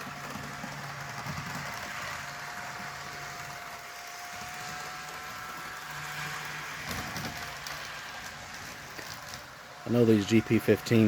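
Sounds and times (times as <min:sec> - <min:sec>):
model train motor whine: 0:00.0 - 0:11.0
wheels hissing on rails: 0:00.0 - 0:11.0.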